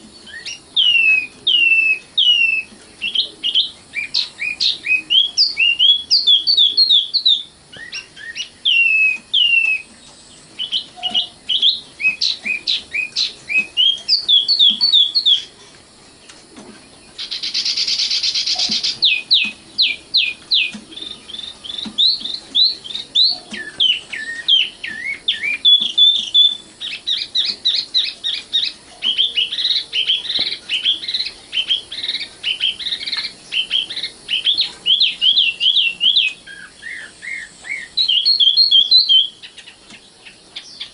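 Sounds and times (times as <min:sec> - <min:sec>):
nightingale singing: 0:00.0 - 0:40.9.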